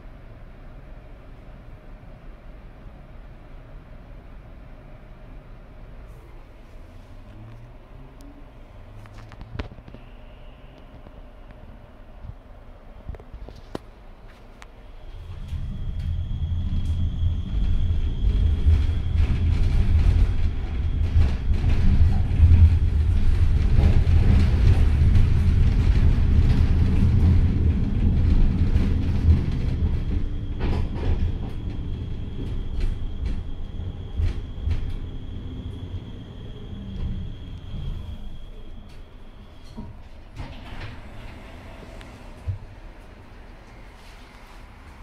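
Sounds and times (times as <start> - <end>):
tram wheels rumbling on track: 0.0 - 45.0.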